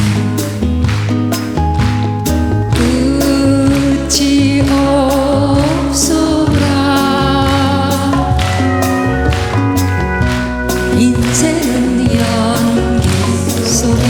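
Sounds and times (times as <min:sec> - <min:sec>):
live band music: 0:00.0 - 0:14.0
person singing long notes: 0:02.7 - 0:14.0.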